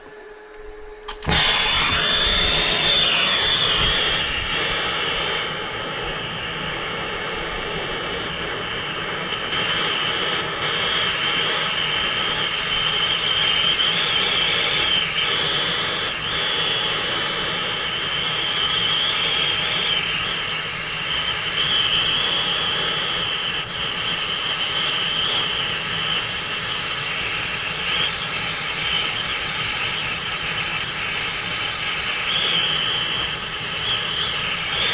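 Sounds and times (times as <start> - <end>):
torch flame hissing and whistling: 0.0 - 34.9.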